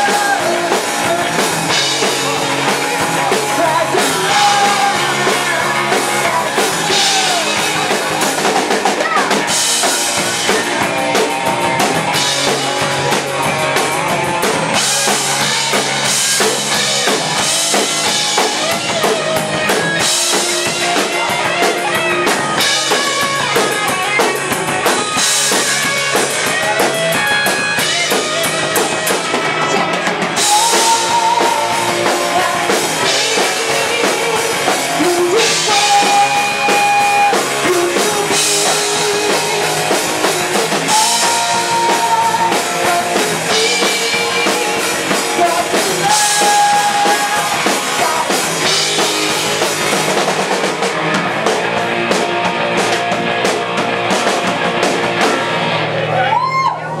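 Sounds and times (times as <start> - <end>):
punk rock band playing: 0.0 - 57.0.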